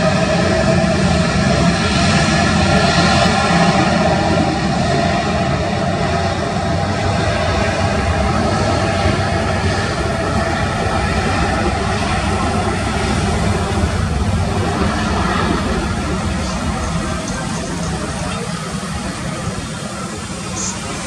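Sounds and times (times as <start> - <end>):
jet engines at takeoff: 0.0 - 21.0.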